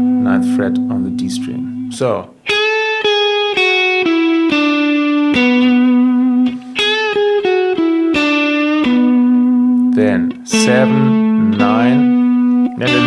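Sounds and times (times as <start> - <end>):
electric guitar single notes: 0.0 - 13.0.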